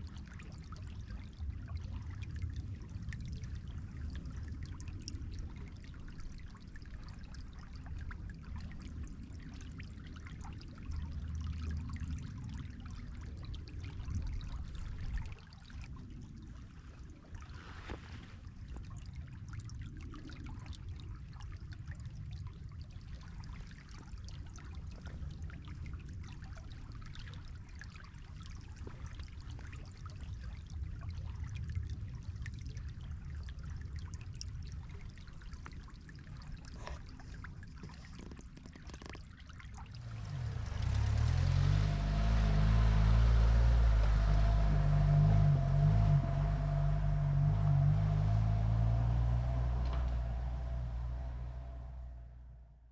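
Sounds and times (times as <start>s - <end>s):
small water splashes: 0.0s - 52.1s
river water flowing: 0.0s - 52.4s.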